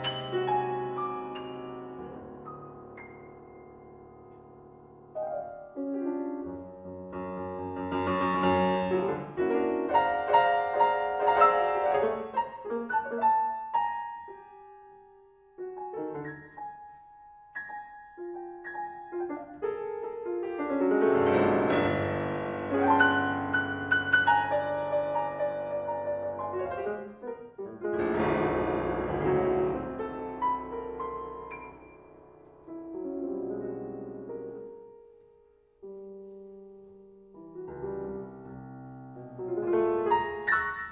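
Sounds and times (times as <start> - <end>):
solo piano piece: 0.0 - 40.9.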